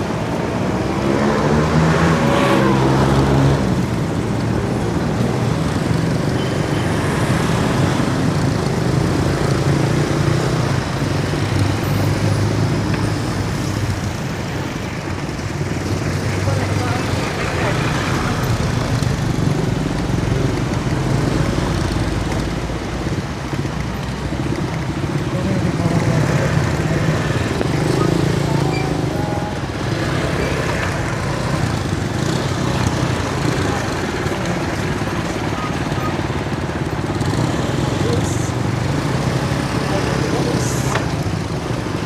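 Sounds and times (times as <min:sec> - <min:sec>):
motor vehicle engines running: 0:00.0 - 0:42.0
road noise: 0:00.0 - 0:42.0.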